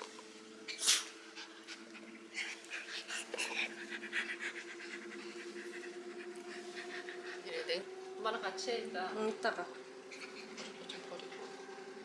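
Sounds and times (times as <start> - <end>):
dog panting: 0.7 - 8.4, 9.4 - 11.5.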